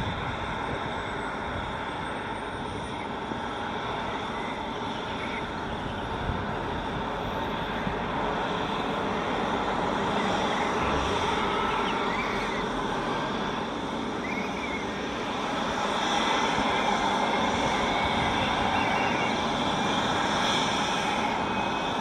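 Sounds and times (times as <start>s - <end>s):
helicopter rotor and turbine: 0.0s - 22.0s
high turbine whine: 0.0s - 22.0s.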